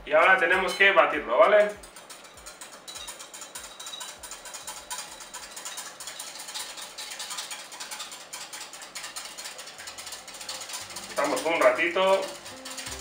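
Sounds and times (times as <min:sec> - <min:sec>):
whisk ticking against glass bowl: 0:00.0 - 0:13.0.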